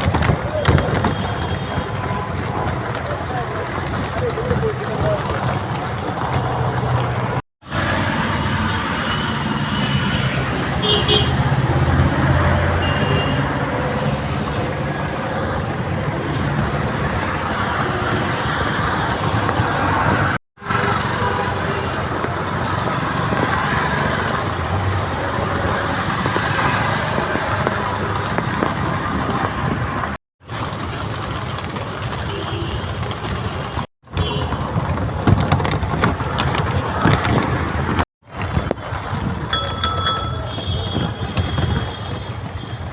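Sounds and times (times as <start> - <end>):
city street traffic: 0.0 - 42.9.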